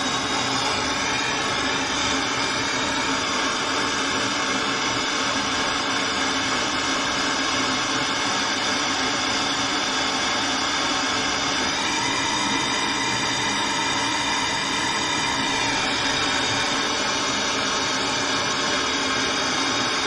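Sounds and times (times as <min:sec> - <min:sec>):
blowtorch flame burning: 0:00.0 - 0:20.0.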